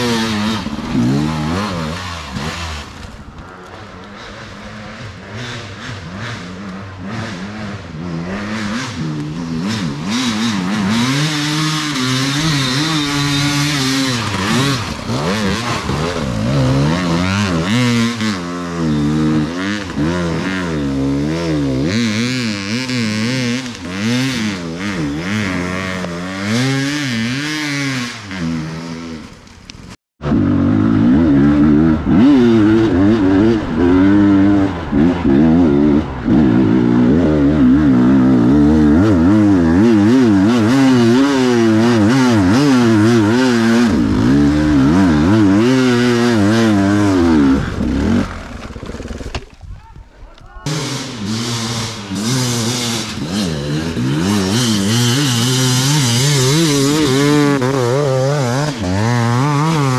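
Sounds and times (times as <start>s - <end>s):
motorcycle engine revving: 0.0s - 49.6s, 50.5s - 59.9s.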